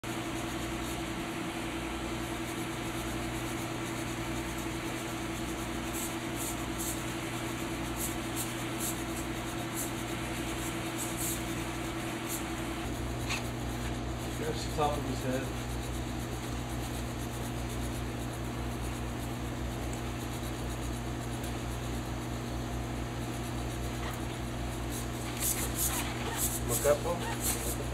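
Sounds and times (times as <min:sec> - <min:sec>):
steady mechanical hum: 0:00.0 - 0:27.9.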